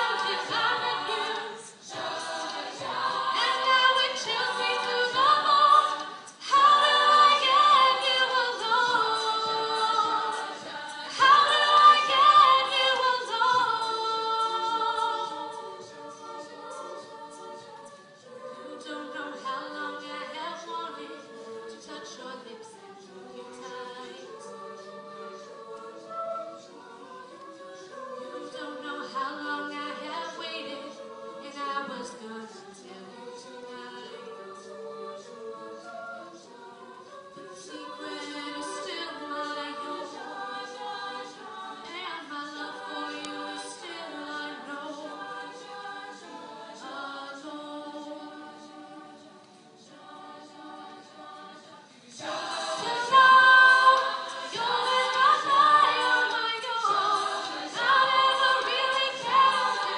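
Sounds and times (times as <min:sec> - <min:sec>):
a cappella group singing: 0:00.0 - 0:59.9.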